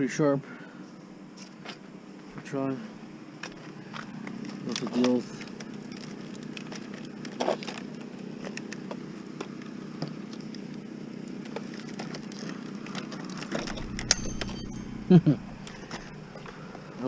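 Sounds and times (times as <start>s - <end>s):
low outdoor hum: 0.0s - 17.0s.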